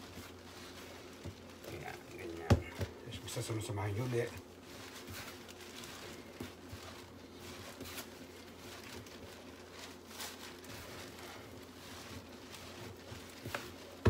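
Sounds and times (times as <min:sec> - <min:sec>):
hands kneading dough: 0:00.0 - 0:14.0.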